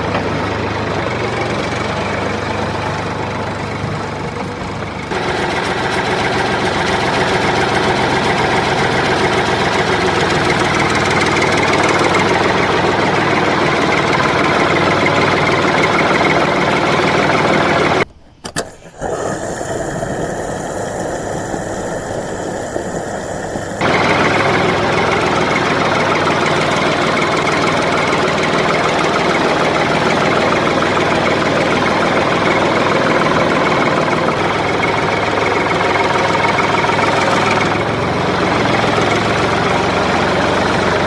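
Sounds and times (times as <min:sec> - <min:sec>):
motor running loudly: 0:00.0 - 0:18.1, 0:19.0 - 0:41.0.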